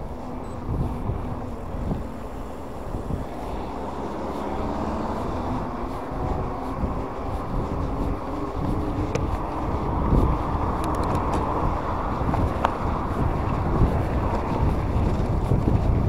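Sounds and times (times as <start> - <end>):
tyre noise on asphalt: 0.0 - 16.0
wind rushing over microphone: 0.0 - 16.0.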